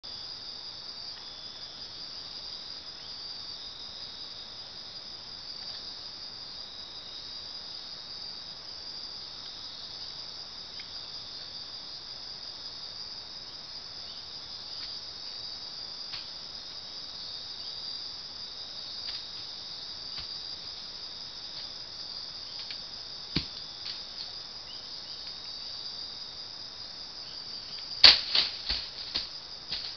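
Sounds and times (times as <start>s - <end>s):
night insects chorus: 0.0s - 29.9s.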